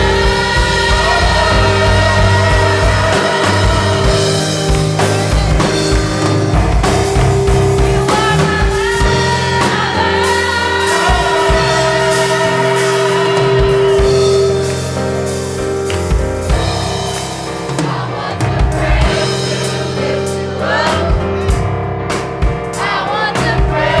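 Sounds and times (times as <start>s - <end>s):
gospel singers with band: 0.0s - 24.0s.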